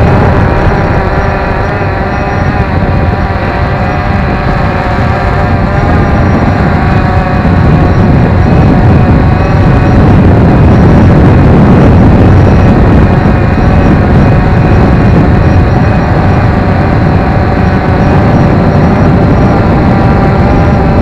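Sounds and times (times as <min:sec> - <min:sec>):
drone motors whining: 0:00.0 - 0:21.0
loud low rumble: 0:00.0 - 0:21.0.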